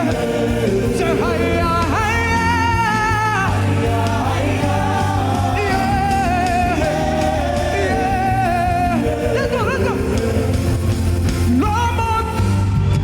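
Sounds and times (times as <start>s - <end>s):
band accompaniment: 0.0s - 13.0s.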